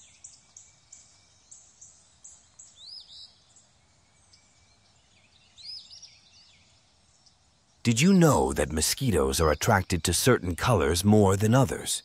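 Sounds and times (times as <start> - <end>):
birdsong: 0.0 - 12.0.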